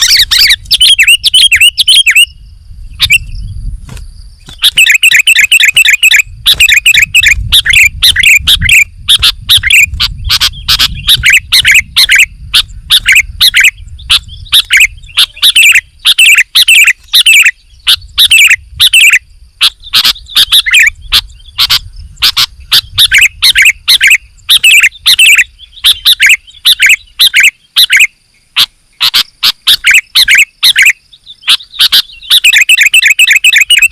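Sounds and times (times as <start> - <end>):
bulbul chirping song: 0.0 - 33.9.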